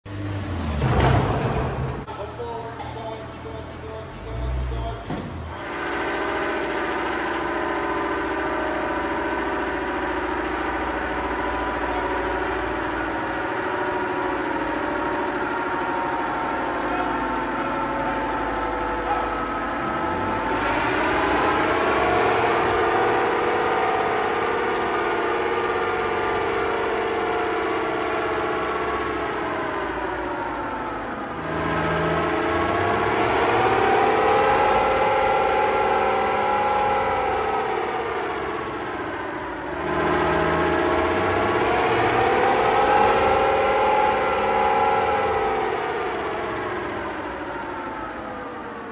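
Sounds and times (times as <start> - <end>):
pickup truck engine running: 5.6 - 48.9.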